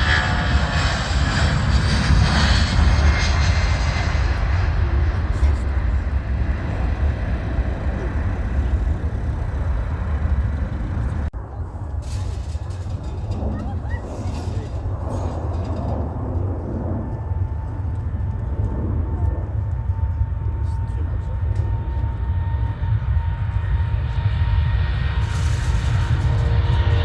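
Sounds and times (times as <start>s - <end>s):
jet engine whine: 0.0s - 27.0s
jet engines rumbling: 0.0s - 27.0s.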